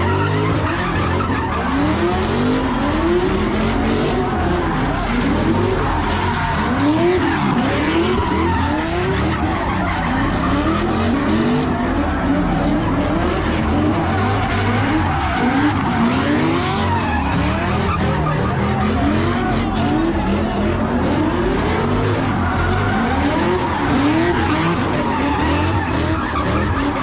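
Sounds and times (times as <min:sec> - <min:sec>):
car engine revving: 0:00.0 - 0:27.0
tyres skidding and screeching: 0:00.0 - 0:27.0.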